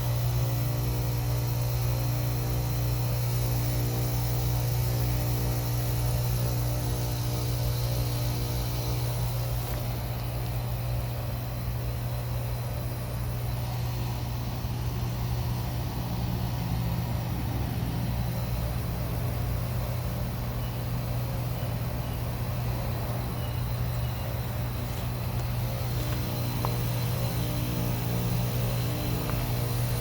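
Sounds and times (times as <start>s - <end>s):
heat pump compressor humming: 0.0s - 30.0s.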